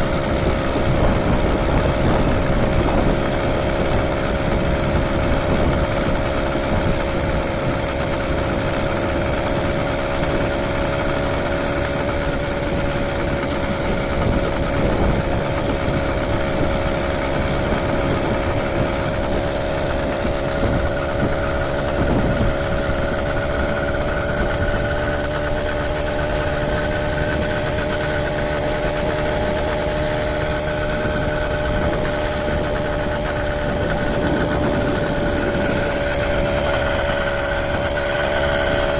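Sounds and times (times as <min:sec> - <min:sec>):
small engine running steadily: 0:00.0 - 0:38.9
wind buffeting microphone: 0:00.0 - 0:38.9.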